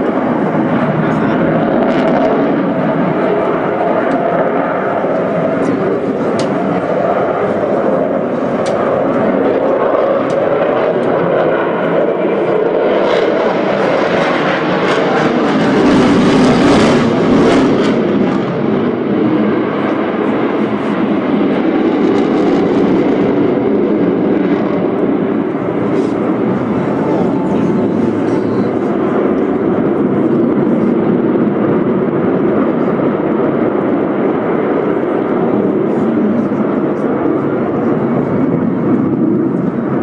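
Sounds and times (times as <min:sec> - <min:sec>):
fighter jet engines roaring overhead: 0:00.0 - 0:40.0.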